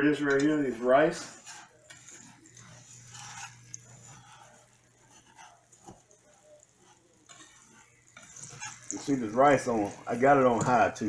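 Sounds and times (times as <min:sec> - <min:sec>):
whisk scraping saucepan: 0:00.0 - 0:11.0.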